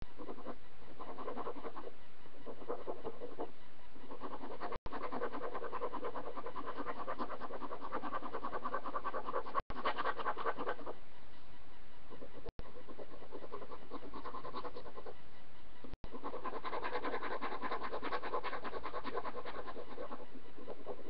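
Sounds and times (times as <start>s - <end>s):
pencil scratching on paper: 0.1s - 11.0s, 12.1s - 15.2s, 16.0s - 21.0s.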